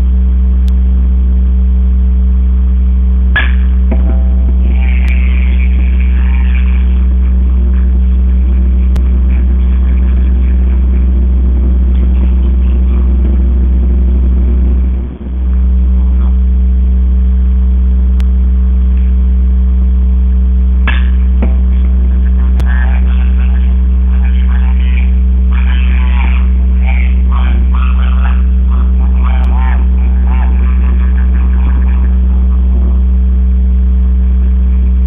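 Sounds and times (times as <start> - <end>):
loud electrical hum: 0.0 - 35.0.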